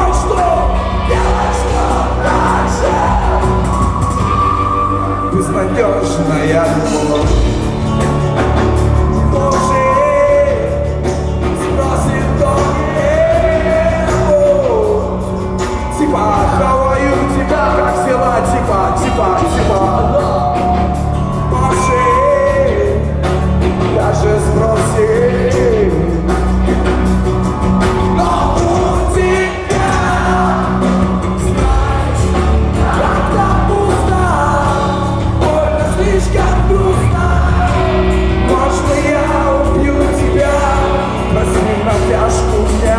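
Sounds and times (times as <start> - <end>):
person singing: 0.0 - 42.9
rock band playing live: 0.0 - 42.9.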